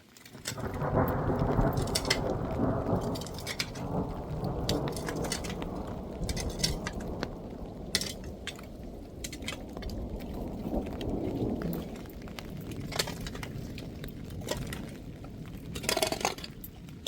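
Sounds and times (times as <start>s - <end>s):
raindrops tapping a surface: 0.0s - 17.0s
steady rain: 0.0s - 17.0s
thunder rolling: 0.4s - 17.0s.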